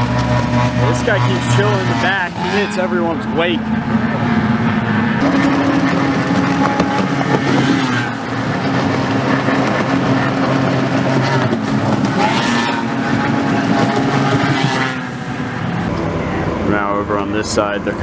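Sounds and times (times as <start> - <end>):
outboard motors running at speed: 0.0 - 18.0.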